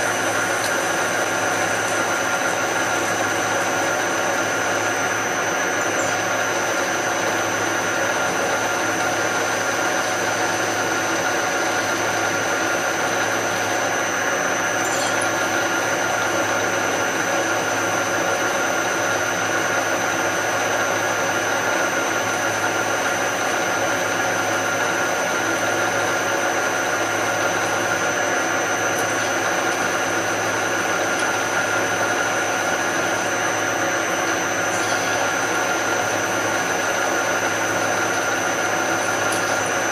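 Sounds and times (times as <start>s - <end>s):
drill press drilling metal: 0.0s - 39.9s.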